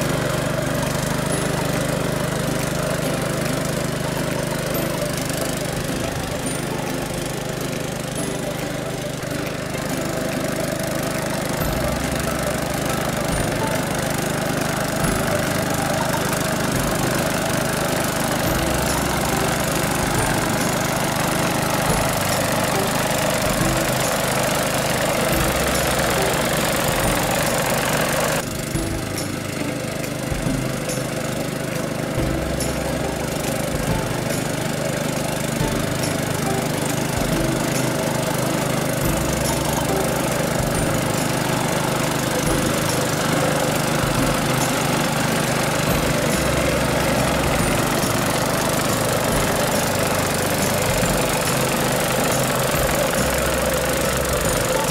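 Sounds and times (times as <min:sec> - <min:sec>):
mower cutting tall grass: 0:00.0 - 0:54.9
mower engine running: 0:00.0 - 0:54.9.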